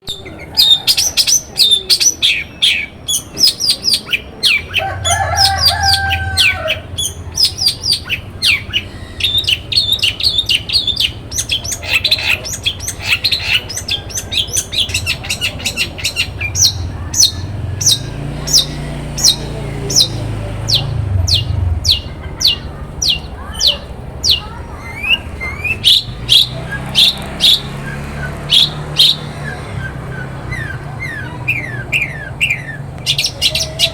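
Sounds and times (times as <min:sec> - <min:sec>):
shrike singing: 0:00.0 - 0:33.9.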